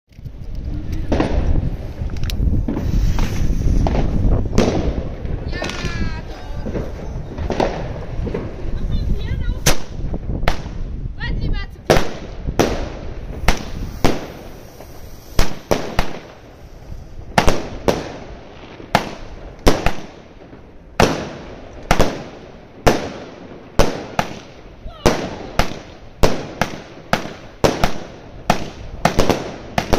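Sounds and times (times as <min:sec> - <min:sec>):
firework cake sharp reports: 0:02.6 - 0:20.3, 0:21.0 - 0:29.9.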